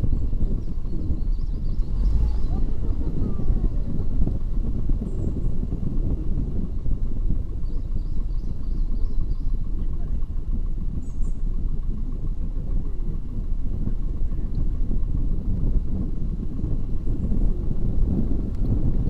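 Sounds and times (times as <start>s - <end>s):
vehicle driving low rumble: 0.0s - 19.0s.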